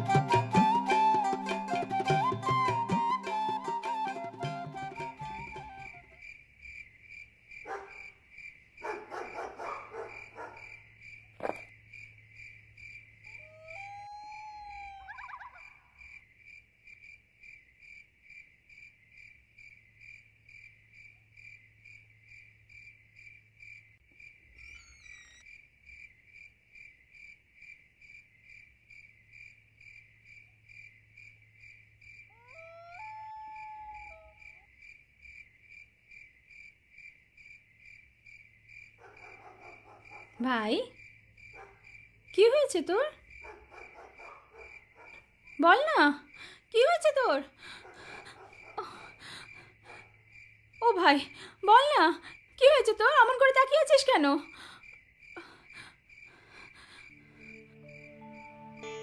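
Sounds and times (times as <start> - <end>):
insect chirping: 5.2 - 59.0.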